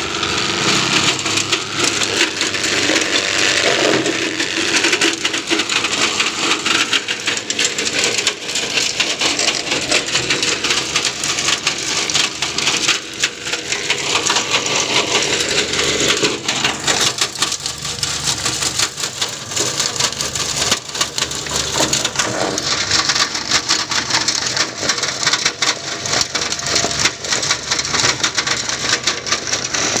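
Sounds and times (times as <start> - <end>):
grinding machine shredding: 0.0 - 30.0.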